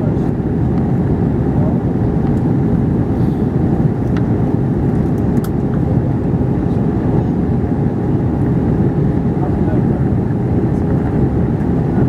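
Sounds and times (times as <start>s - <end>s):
airplane cabin engine rumble: 0.0s - 12.0s
faint hum: 0.0s - 12.0s.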